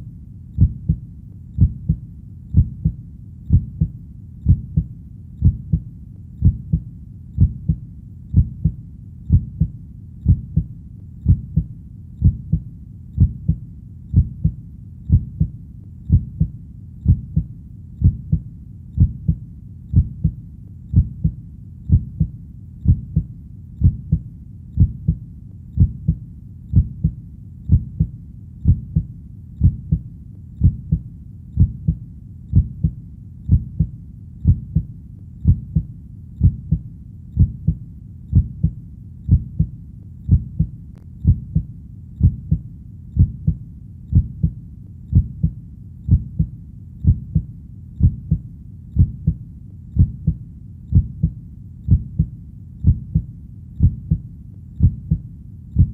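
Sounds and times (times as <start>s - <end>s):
faint low rumble: 0.0s - 55.9s
heartbeat double thump: 0.6s - 1.0s, 1.6s - 5.8s, 6.4s - 6.8s, 7.4s - 12.6s, 13.2s - 15.5s, 16.1s - 18.4s, 19.0s - 24.2s, 24.8s - 25.2s, 25.8s - 30.0s, 30.6s - 31.0s, 31.6s - 36.8s, 37.4s - 39.7s, 40.3s - 42.6s, 43.2s - 48.4s, 49.0s - 49.4s, 50.0s - 54.2s, 54.8s - 55.2s.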